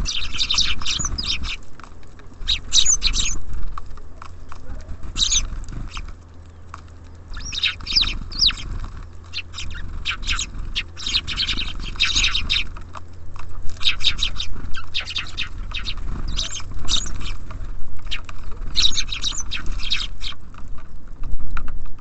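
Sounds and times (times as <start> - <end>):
sweeping bird calls: 0.0 - 3.8, 4.6 - 21.1
songbirds chirping: 0.0 - 22.0
steady low hum: 0.0 - 22.0.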